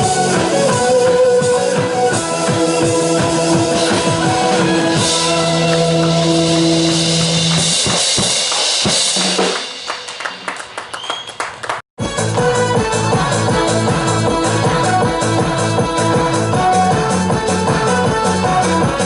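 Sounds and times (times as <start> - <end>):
keyboard chords: 0.0 - 8.8, 12.0 - 19.0
drum kit: 0.0 - 19.0.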